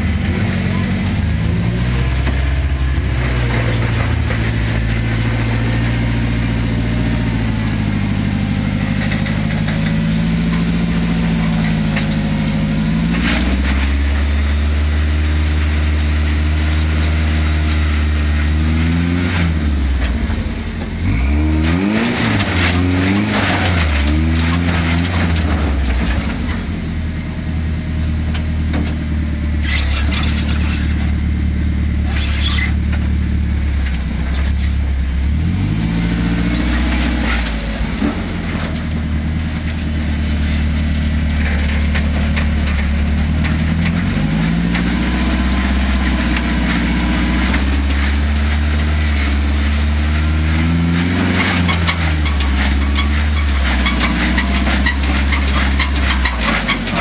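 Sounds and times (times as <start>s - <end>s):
engine revving: 0.0s - 57.0s
truck engine idling: 0.0s - 57.0s.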